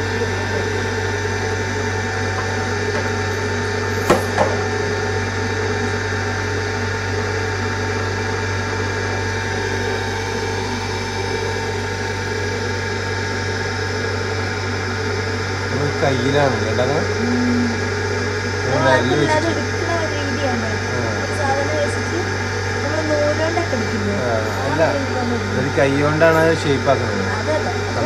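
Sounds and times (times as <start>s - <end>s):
potter's wheel motor humming: 0.0s - 28.0s.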